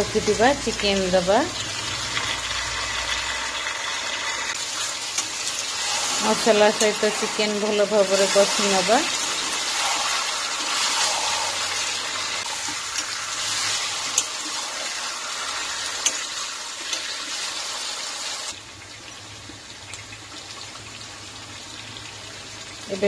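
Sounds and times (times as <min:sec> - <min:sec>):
chicken sizzling in a pan: 0:00.2 - 0:18.8.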